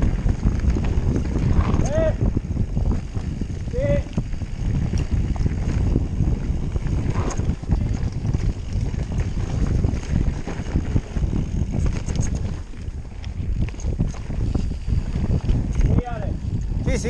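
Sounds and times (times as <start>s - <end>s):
bike tyres rumbling over dirt: 0.0s - 17.0s
wind buffeting microphone: 0.0s - 17.0s.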